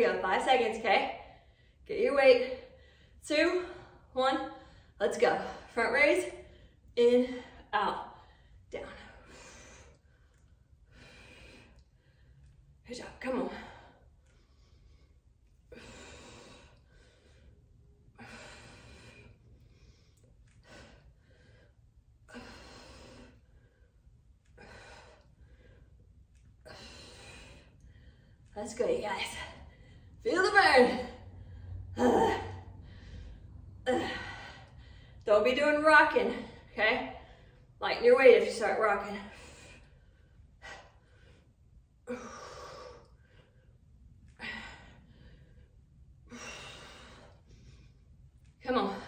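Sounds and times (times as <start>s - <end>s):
woman breathing hard: 2.6s - 12.8s, 13.5s - 30.2s, 30.9s - 35.3s, 39.2s - 49.0s.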